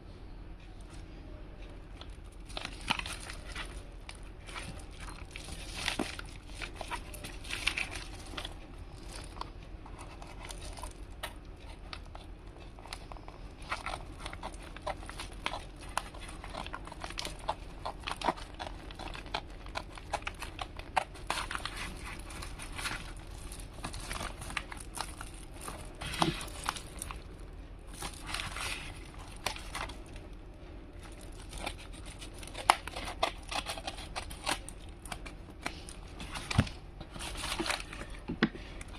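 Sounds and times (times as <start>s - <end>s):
packaging crinkling and rustling: 1.6s - 38.9s.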